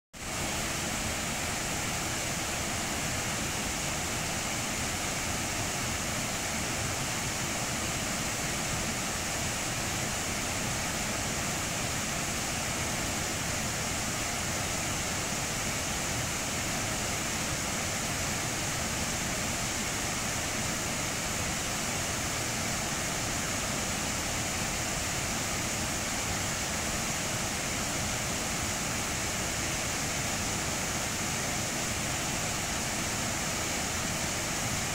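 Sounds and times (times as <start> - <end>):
water rushing over rocks: 0.2 - 34.9.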